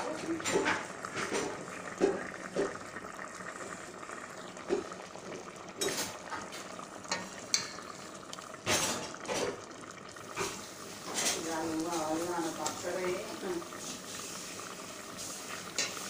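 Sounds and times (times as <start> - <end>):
stew bubbling in a pot: 0.0 - 16.0.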